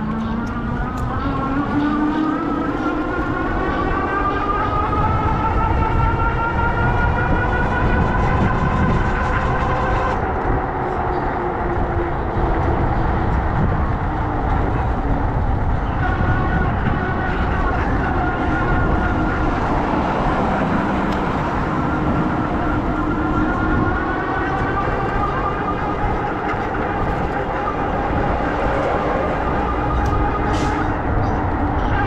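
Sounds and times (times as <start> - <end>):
road noise: 0.0 - 32.0
wind rumble on microphone: 0.0 - 32.0.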